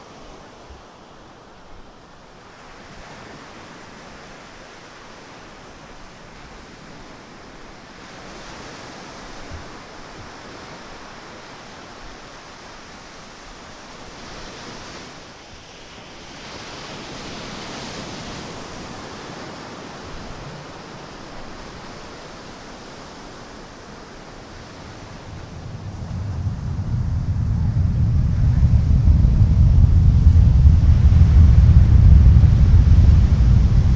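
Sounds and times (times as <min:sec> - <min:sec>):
ocean surf washing on beach: 0:00.0 - 0:33.9
wind: 0:00.0 - 0:33.9.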